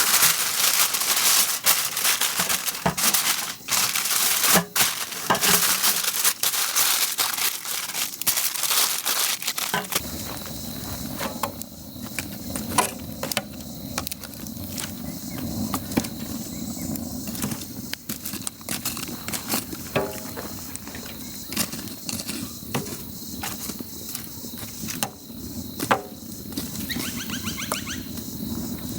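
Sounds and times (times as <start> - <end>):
crinkling crushing handling noise: 0.0 - 16.4, 17.0 - 27.1
scattered crackles and clicks: 0.0 - 25.1.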